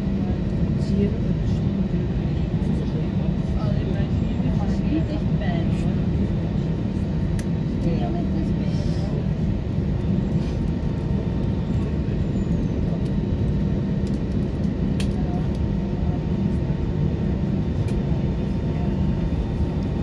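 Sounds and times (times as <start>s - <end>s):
jet engines idling: 0.0s - 20.0s.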